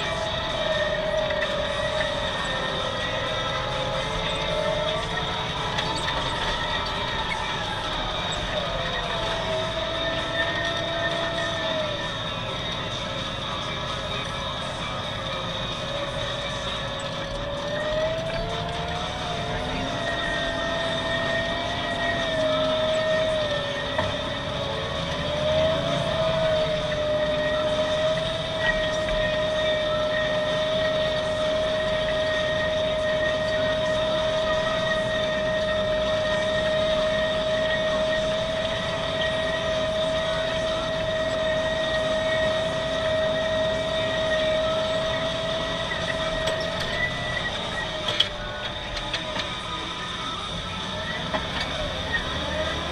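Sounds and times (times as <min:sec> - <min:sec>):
high whine: 0:00.0 - 0:52.9
tractor engine drone: 0:00.0 - 0:52.9.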